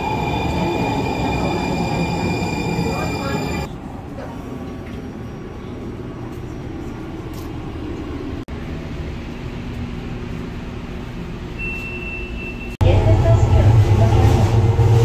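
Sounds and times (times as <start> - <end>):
train rumbling and humming: 0.0 - 15.0.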